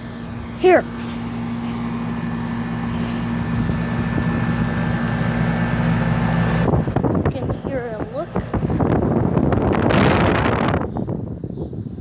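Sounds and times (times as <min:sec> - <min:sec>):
air conditioner compressor hum: 0:00.0 - 0:12.0
fan rushing air: 0:00.0 - 0:12.0.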